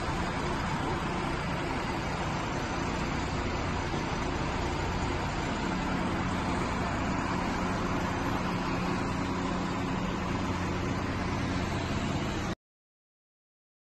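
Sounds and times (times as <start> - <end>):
vehicle engine rumble: 0.0 - 12.6.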